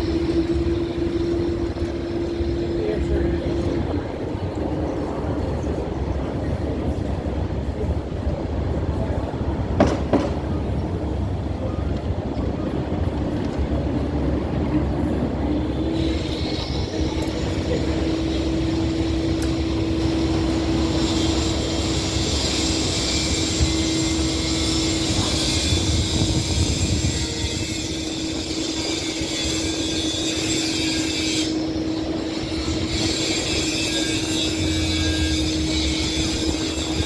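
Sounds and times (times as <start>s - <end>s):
street drilling: 0.0s - 37.0s.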